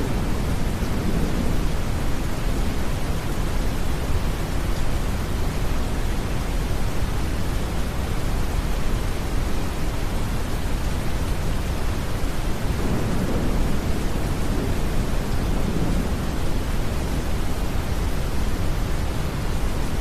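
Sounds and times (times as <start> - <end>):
brown noise rushing hiss: 0.0 - 20.0
soft rain: 0.0 - 20.0.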